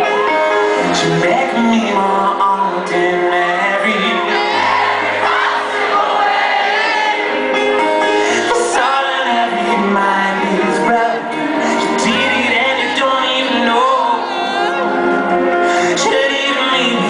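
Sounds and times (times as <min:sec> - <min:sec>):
live pop band playing: 0:00.0 - 0:17.0
layered sung vocals: 0:00.8 - 0:17.0.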